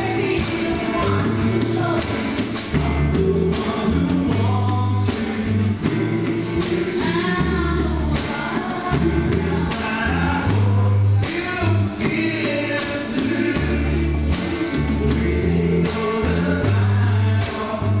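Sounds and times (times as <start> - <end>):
bass line: 0.0 - 18.0
men singing together: 0.0 - 18.0
steady percussion: 0.0 - 18.0
strummed acoustic guitars: 0.0 - 18.0.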